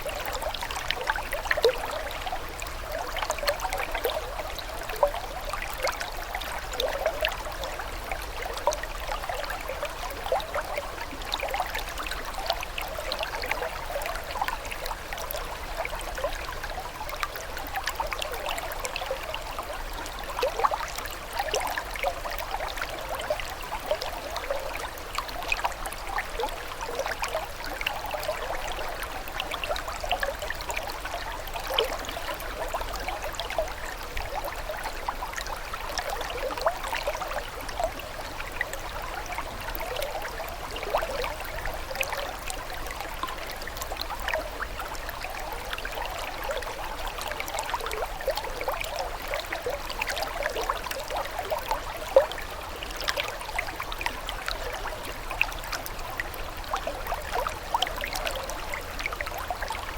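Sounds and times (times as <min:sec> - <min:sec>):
small stream trickling: 0:00.0 - 0:59.9.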